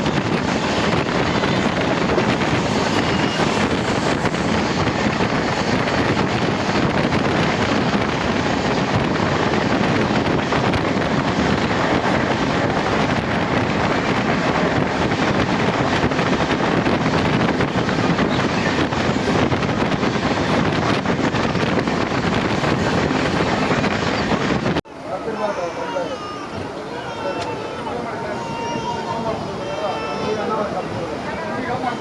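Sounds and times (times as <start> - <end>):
train running noise: 0.0 - 32.0
wind buffeting microphone: 0.0 - 32.0.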